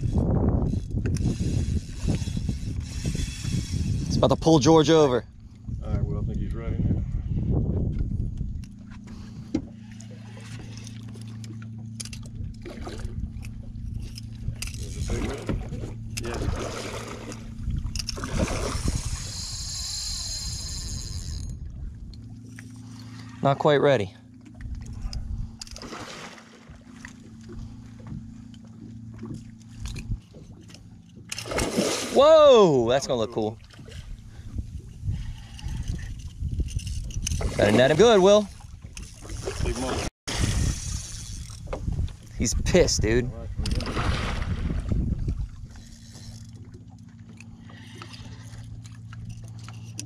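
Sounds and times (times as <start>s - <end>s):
boat motor humming: 0.0s - 50.0s.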